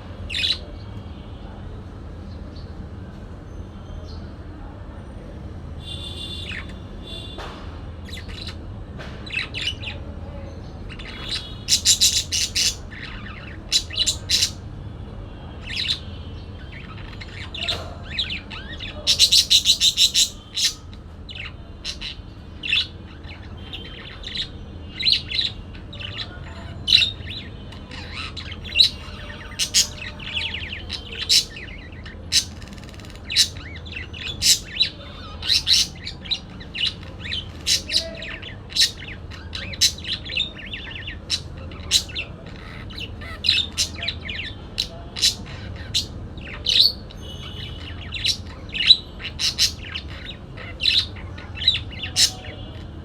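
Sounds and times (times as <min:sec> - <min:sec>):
parakeet chirping: 0:05.8 - 0:07.3, 0:08.1 - 0:08.6, 0:10.9 - 0:14.6, 0:15.6 - 0:53.0.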